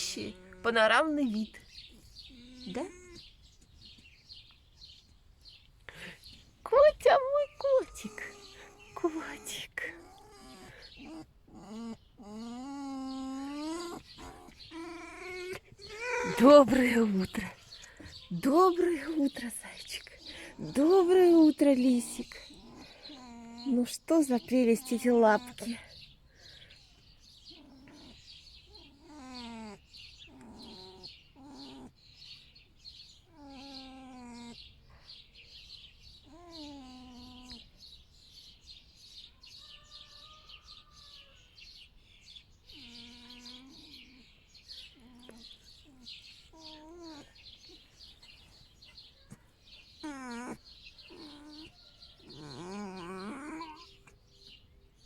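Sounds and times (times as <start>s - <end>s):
fox whining and mewing: 0.0s - 3.6s, 5.9s - 26.6s, 27.2s - 35.1s, 36.0s - 37.9s, 42.7s - 54.7s.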